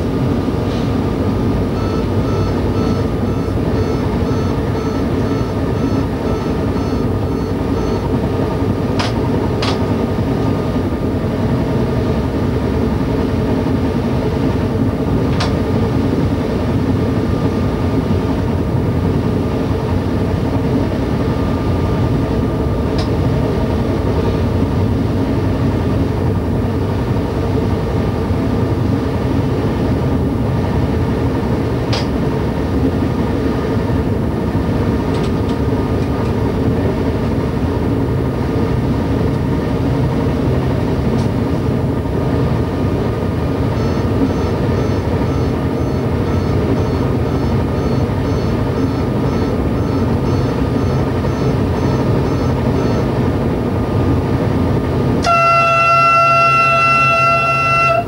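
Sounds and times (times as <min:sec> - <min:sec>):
train engine drone: 0:00.0 - 0:58.0
wheel and rail rolling noise: 0:05.2 - 0:58.0.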